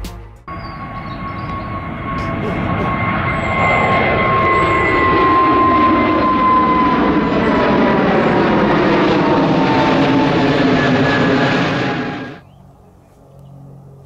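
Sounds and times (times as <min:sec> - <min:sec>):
jet engine roar with whine: 0:00.5 - 0:14.0.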